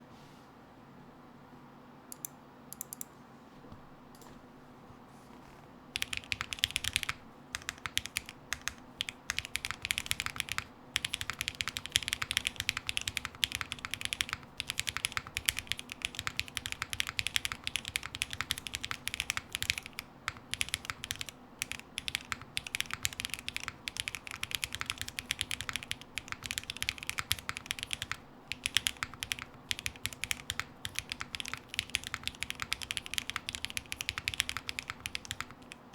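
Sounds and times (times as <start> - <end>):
mechanical keyboard typing: 6.0 - 35.9.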